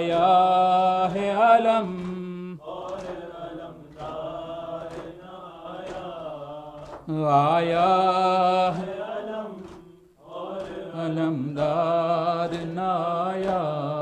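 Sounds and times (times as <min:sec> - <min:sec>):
man chanting: 0:00.0 - 0:14.0
chest-beating slaps: 0:00.8 - 0:07.2, 0:08.7 - 0:13.8.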